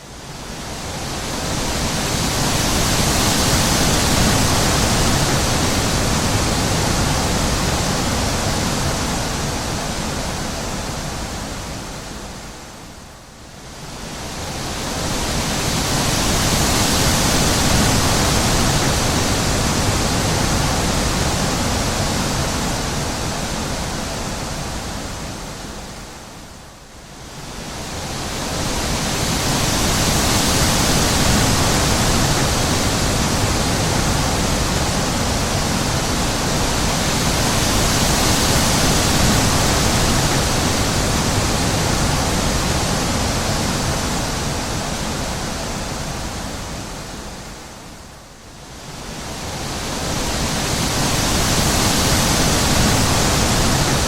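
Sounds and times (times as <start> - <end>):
wind gusts: 0.0 - 54.0.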